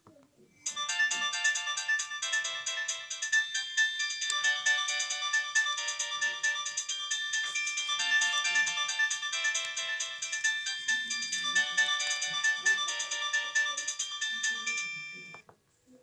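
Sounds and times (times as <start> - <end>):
mobile phone ringtone: 0.4 - 15.4.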